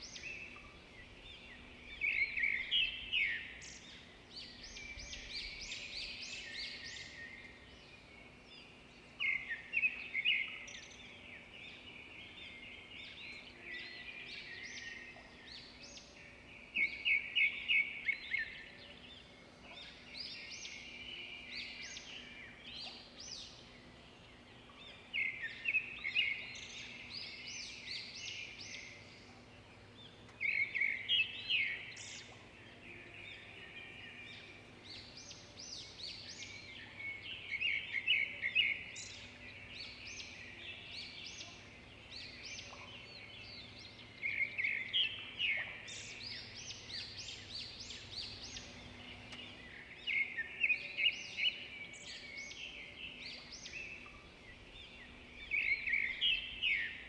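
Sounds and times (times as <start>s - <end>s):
birds chirping: 0.0s - 57.0s
faint steady low hum: 0.0s - 57.0s.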